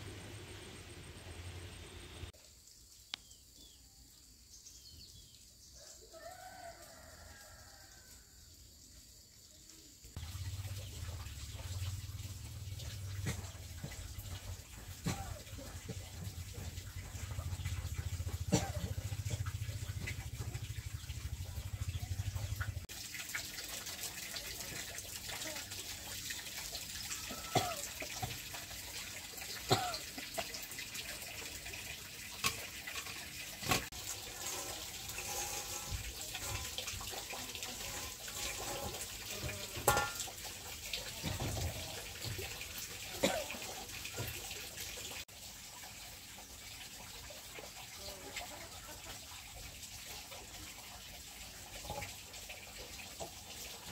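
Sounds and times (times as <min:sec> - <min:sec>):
water running and splashing: 0:00.0 - 0:53.9.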